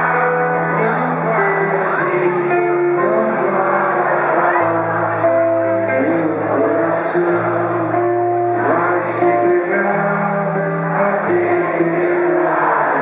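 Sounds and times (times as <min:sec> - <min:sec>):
classical guitar: 0:00.0 - 0:13.0
man singing: 0:00.0 - 0:13.0.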